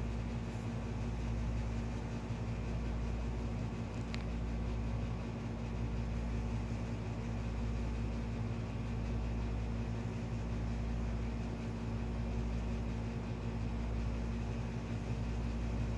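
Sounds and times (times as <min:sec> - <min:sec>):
low mechanical hum: 0:00.0 - 0:15.9.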